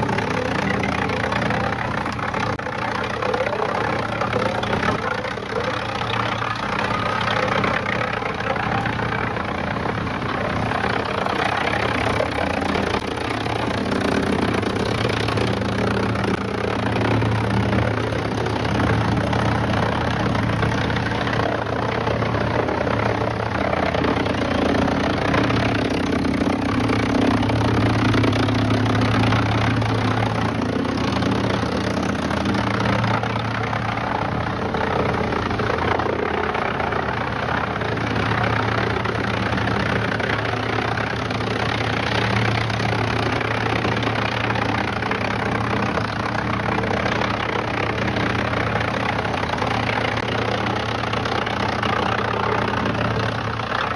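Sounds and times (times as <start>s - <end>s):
heavy machinery engine drone: 0.0s - 53.9s.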